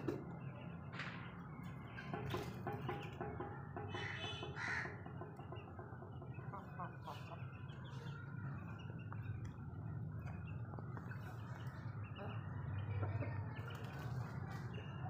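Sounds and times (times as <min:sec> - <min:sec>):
chickens clucking: 0:01.5 - 0:15.0.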